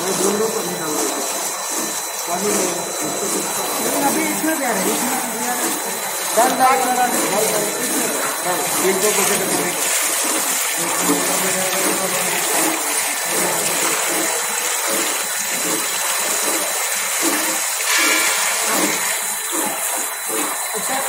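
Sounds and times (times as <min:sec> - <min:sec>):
water jets spraying: 0:00.0 - 0:21.0.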